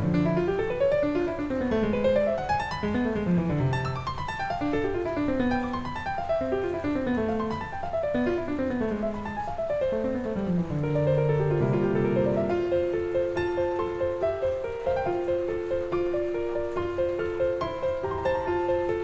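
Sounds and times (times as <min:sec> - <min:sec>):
solo classical piano: 0:00.0 - 0:19.0.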